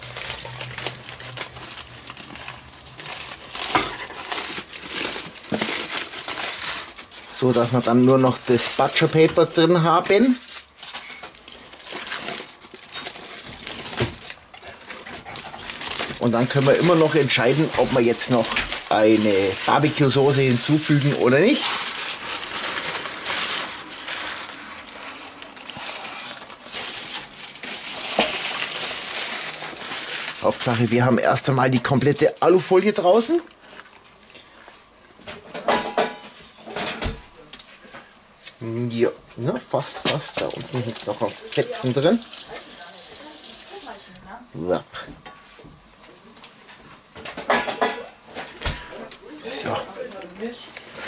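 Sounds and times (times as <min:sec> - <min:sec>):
aluminium foil crinkling: 0:00.0 - 0:34.8, 0:36.3 - 0:44.8.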